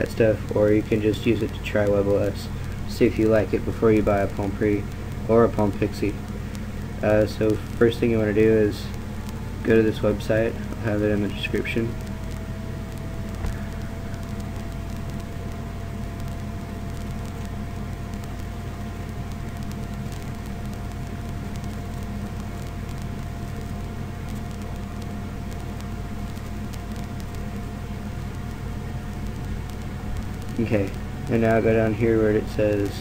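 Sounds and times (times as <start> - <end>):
faint constant whine: 0.0 - 33.0
low electrical hum and hiss: 0.0 - 33.0.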